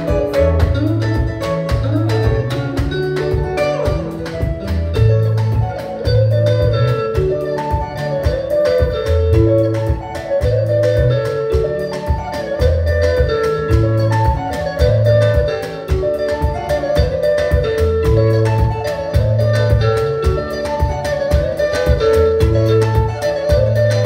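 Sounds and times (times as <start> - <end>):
bass line: 0.0 - 24.0
drum kit beat: 0.0 - 24.0
electric guitar melody: 0.0 - 24.0
keyboard: 0.0 - 24.0.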